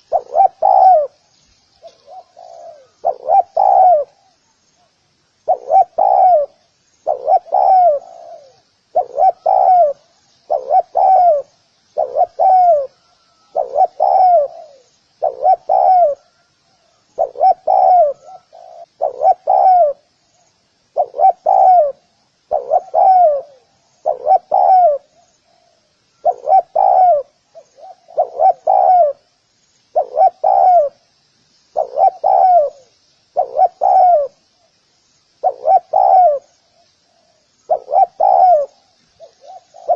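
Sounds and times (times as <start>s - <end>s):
dove cooing: 0.0s - 1.2s, 1.8s - 4.4s, 5.4s - 20.1s, 20.9s - 29.3s, 29.9s - 31.0s, 31.8s - 34.4s, 35.4s - 39.9s
faint high chirping: 0.0s - 39.9s.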